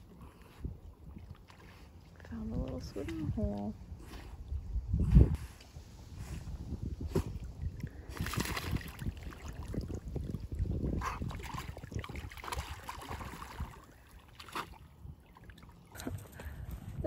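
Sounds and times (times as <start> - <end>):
dog paddling and splashing water: 0.0 - 5.0, 6.5 - 17.0.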